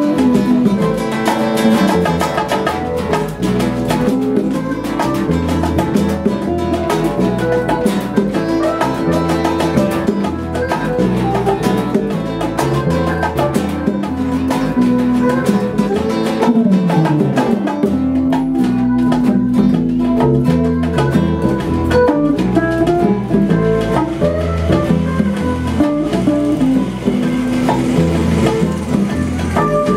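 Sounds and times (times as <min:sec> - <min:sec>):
instrumental salsa music: 0:00.0 - 0:29.9.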